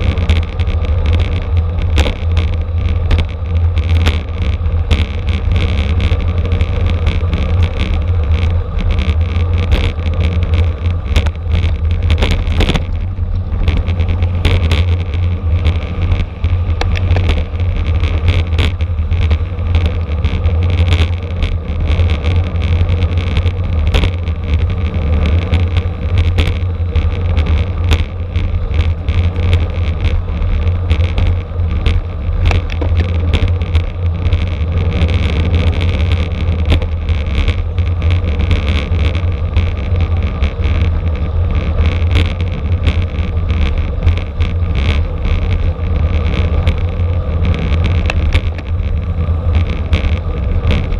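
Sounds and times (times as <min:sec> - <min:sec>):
bicycle drivetrain rattle: 0:00.0 - 0:50.9
wind rushing over microphone: 0:00.0 - 0:50.9.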